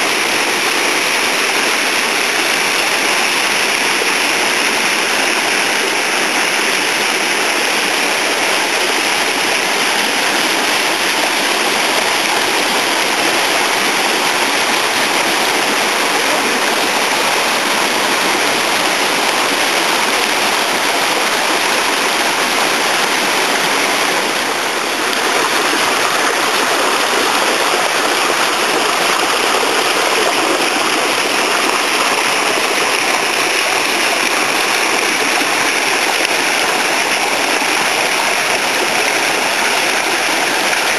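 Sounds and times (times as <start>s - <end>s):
water rushing down stepped pools: 0.0s - 40.9s.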